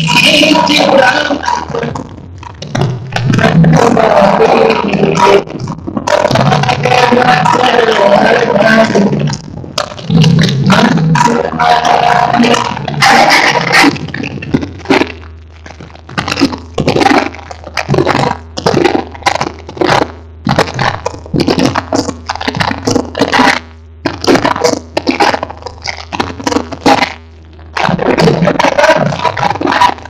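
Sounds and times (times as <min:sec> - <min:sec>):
distorted dance music: 0:00.0 - 0:30.0.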